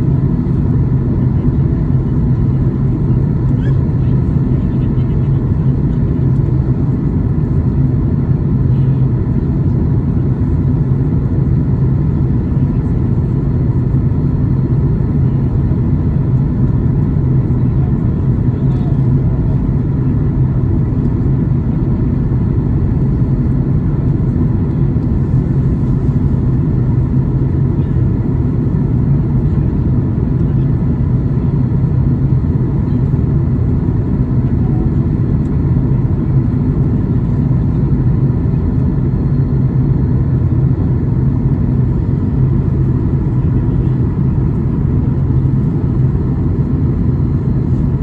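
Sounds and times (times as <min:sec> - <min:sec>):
airliner cabin noise: 0:00.0 - 0:48.0.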